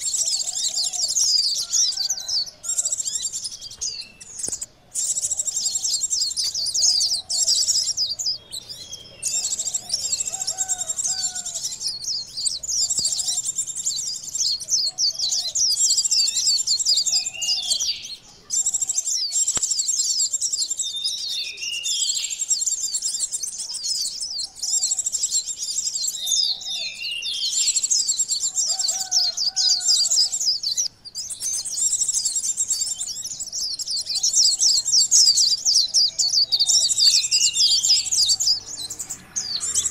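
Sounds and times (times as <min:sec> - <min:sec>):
birds chattering trills: 0:00.0 - 0:39.9
lower bird call notes: 0:00.0 - 0:39.9.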